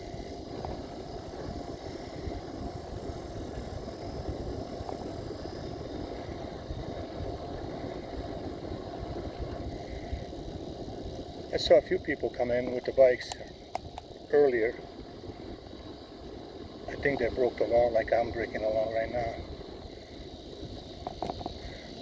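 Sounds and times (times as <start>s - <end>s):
bicycle tyre hum on asphalt: 0.0s - 22.0s
wind buffeting microphone: 0.0s - 22.0s.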